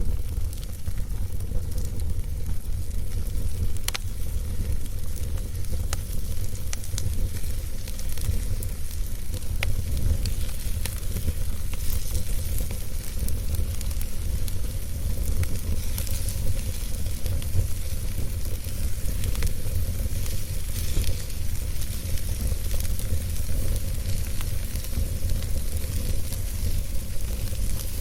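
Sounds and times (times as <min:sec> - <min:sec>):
low rumble of flame: 0:00.0 - 0:28.0
wood fire crackling: 0:00.0 - 0:28.0.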